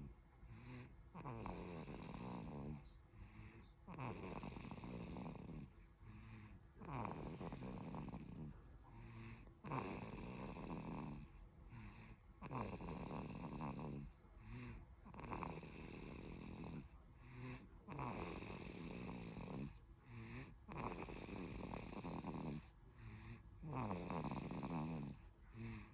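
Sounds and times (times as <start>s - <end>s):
baby snoring: 0.0s - 25.9s
soft baby breaths: 2.4s - 18.2s, 19.6s - 25.9s.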